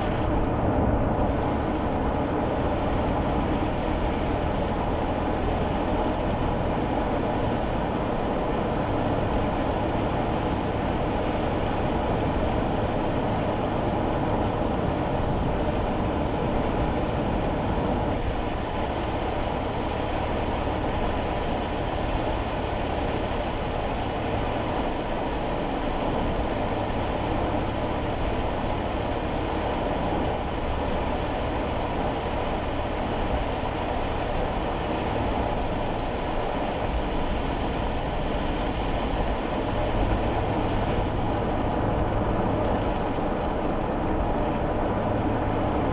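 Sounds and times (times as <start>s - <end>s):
car engine drone: 0.0s - 45.9s.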